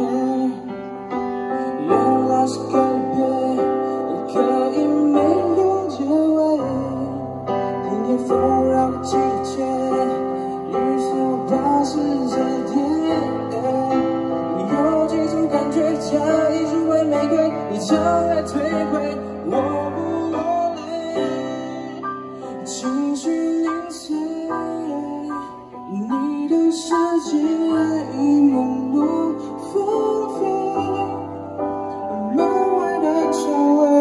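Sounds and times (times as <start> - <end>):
electronic keyboard: 0.0 - 34.0
man singing pop ballad: 0.0 - 34.0.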